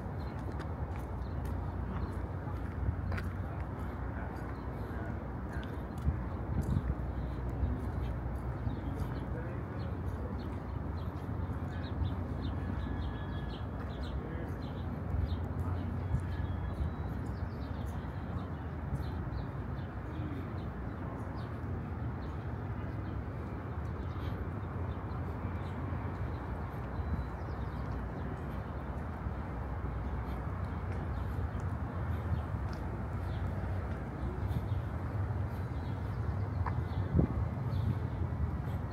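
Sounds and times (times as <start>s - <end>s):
faint distant voices: 0.0s - 38.9s
low urban rumble: 0.0s - 38.9s.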